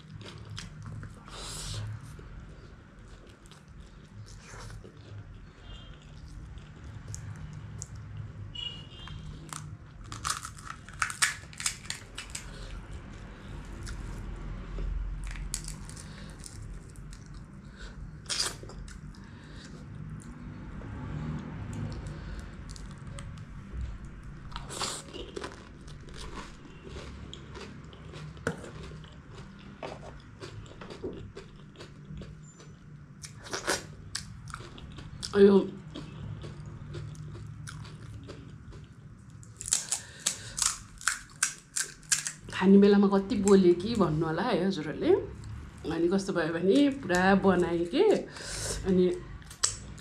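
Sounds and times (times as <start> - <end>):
chewing and crunching crisp shells: 0.0 - 8.3, 9.0 - 20.4, 21.4 - 42.6, 49.1 - 50.0.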